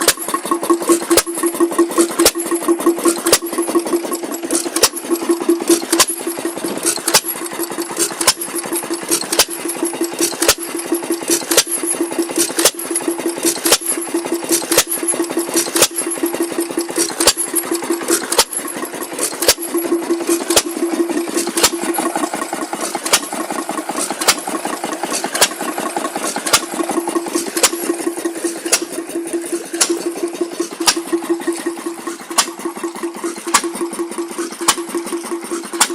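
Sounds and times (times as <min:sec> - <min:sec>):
stationary engine beats: 0:00.0 - 0:35.9.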